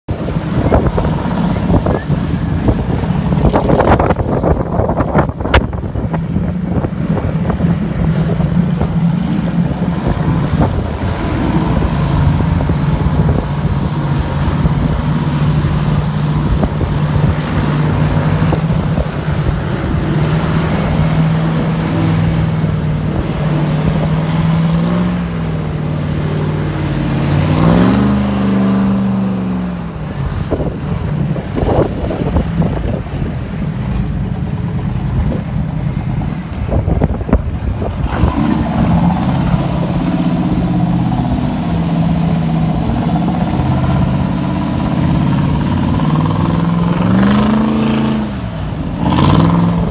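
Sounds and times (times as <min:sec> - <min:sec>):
airboat engine and propeller: 0:00.1 - 0:49.9.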